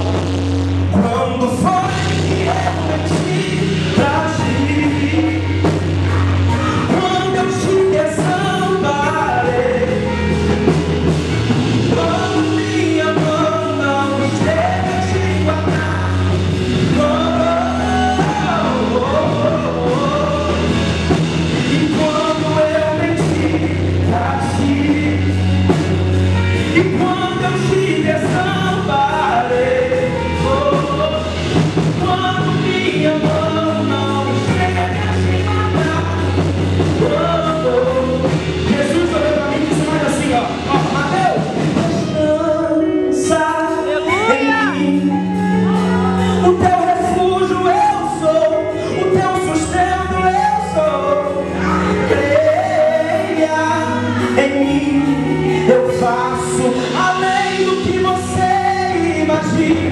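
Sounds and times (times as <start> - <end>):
instrumental accompaniment with bass: 0.0 - 59.9
man singing gospel song: 0.0 - 59.9.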